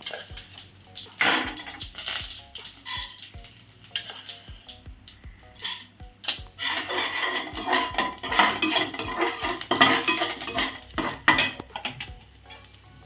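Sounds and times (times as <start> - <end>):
metal pots and utensils clattering: 0.0 - 4.7, 5.5 - 13.0.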